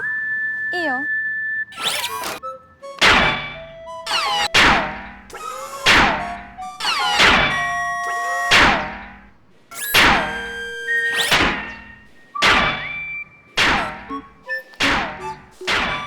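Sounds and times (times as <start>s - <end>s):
cartoon hits: 3.0s - 16.0s.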